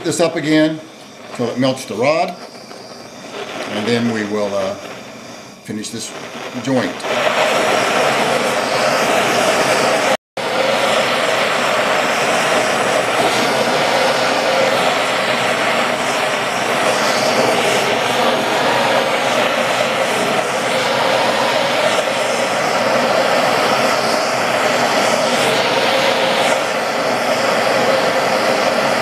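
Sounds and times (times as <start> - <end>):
propane torch hissing: 0.0 - 29.0.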